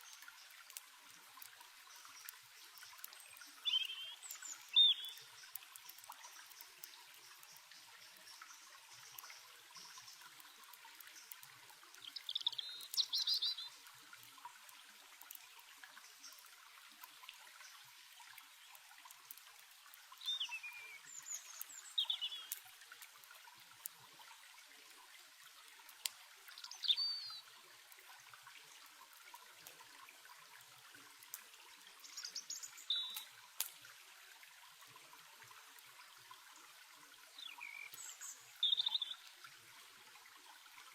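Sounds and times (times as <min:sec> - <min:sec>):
campfire crackling: 0:00.0 - 0:40.9
stream trickling: 0:00.0 - 0:40.9.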